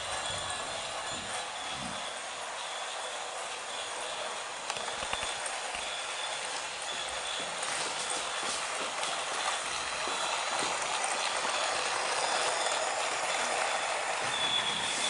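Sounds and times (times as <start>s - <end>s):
toy train whirring: 0.0s - 15.0s
wheels clicking on track: 0.0s - 15.0s.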